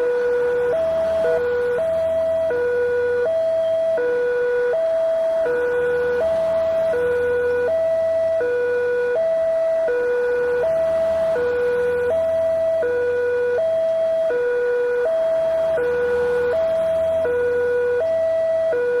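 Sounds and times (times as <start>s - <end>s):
level crossing warning siren: 0.0s - 19.0s.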